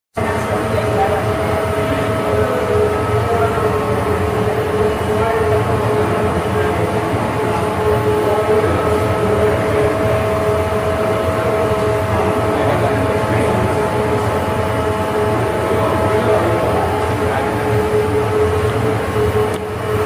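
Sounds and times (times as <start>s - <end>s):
constant whine: 0.2s - 20.0s.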